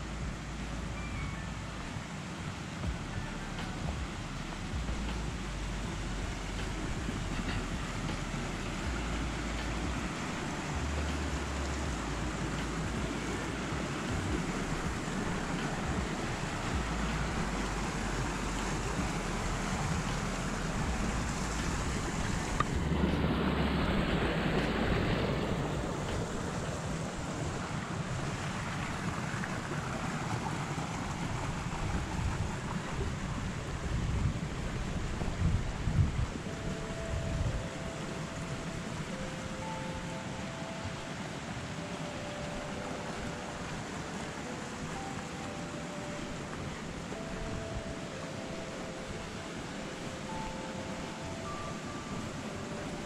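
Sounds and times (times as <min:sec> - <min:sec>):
stream rushing over cascades: 0:00.0 - 0:53.0
wind buffeting microphone: 0:01.7 - 0:53.0.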